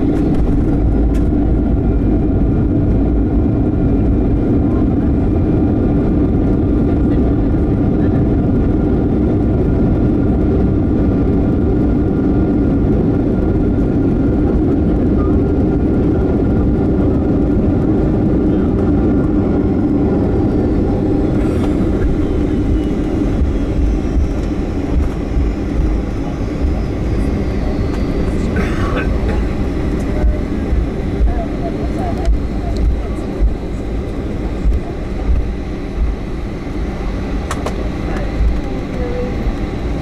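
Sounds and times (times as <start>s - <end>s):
airliner cabin engine and airflow noise: 0.0s - 40.0s.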